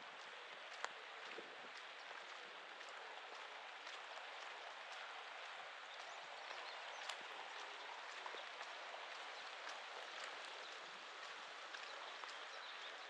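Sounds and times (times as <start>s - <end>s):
raindrop ticks: 0.0s - 13.0s
steady rain falling: 0.0s - 13.0s.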